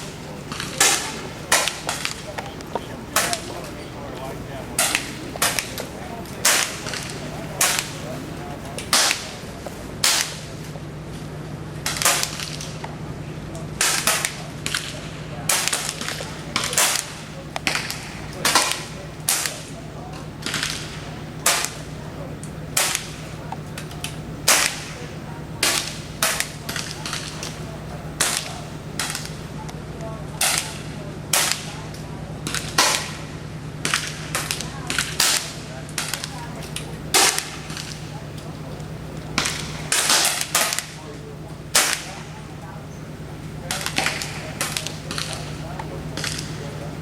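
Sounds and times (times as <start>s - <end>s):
air rifles firing: 0.0s - 10.7s, 11.8s - 12.8s, 13.8s - 29.5s, 30.4s - 42.6s, 43.6s - 47.0s
steady low hum: 0.0s - 47.0s.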